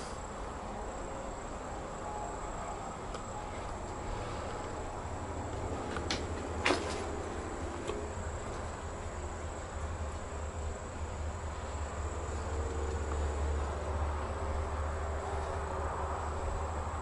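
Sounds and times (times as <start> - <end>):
crickets: 0.0 - 17.0
high insect drone: 0.0 - 17.0.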